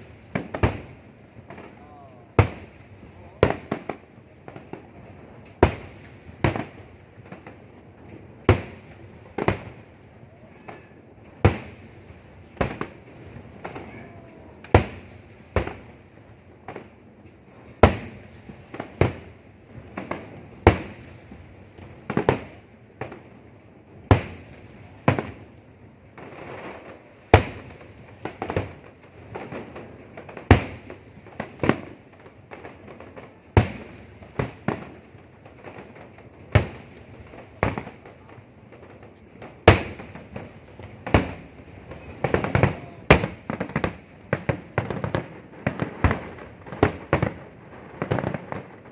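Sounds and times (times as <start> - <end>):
fireworks banging: 0.0 - 48.9
fireworks crackling: 0.0 - 48.9.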